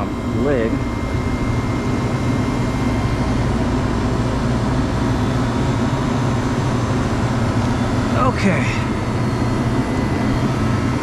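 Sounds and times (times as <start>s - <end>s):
condensing unit low hum: 0.0s - 11.0s.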